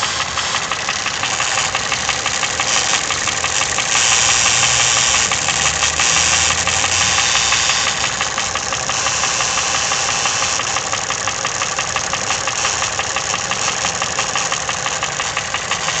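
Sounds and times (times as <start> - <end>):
car engine running: 0.0 - 16.0
rapid engine knocking tick: 0.0 - 16.0.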